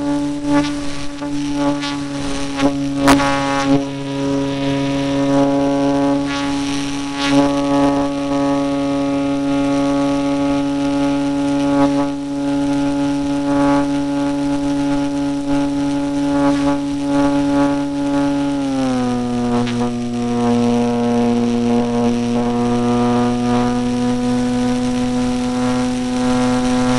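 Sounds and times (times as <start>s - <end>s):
electric motor and propeller droning: 0.0s - 26.9s.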